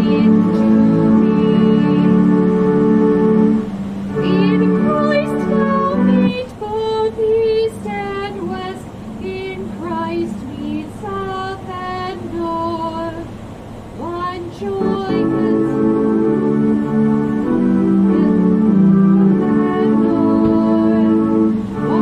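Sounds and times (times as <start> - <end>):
sustained instrumental chords: 0.0 - 22.0
woman singing a hymn: 0.0 - 22.0.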